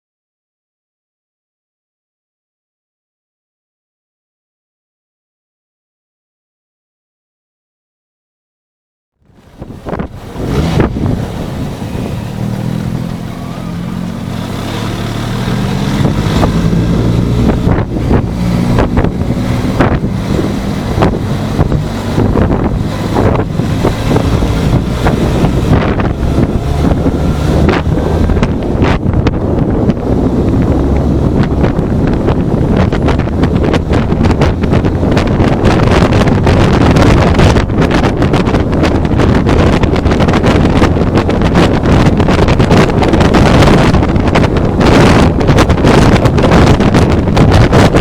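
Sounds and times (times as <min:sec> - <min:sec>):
wind buffeting microphone: 0:09.2 - 0:48.0
motorcycle engine accelerating: 0:09.3 - 0:48.0.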